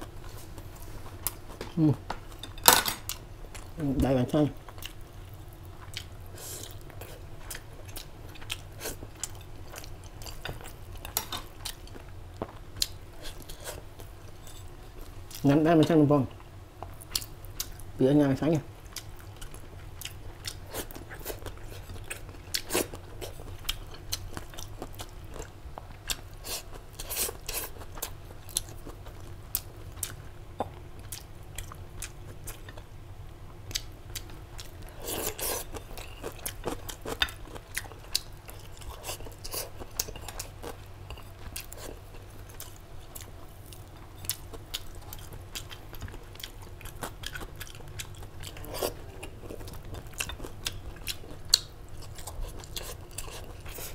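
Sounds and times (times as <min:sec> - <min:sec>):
low steady hum: 0:00.0 - 0:53.9
person chewing crunchy food: 0:04.6 - 0:15.5, 0:16.3 - 0:32.9, 0:33.7 - 0:53.9.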